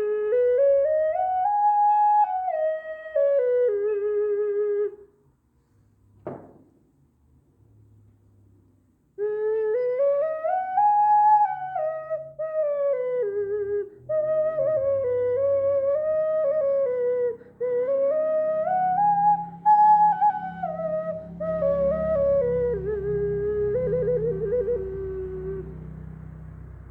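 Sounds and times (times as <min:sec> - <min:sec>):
ocarina melody: 0:00.0 - 0:05.1, 0:09.2 - 0:26.0.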